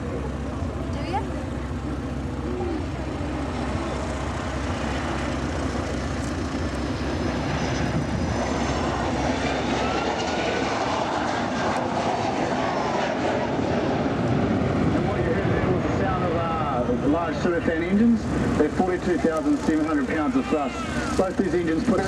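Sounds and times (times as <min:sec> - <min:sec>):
faint jet whine: 0:00.0 - 0:22.0
jet engine rumble: 0:00.0 - 0:22.0.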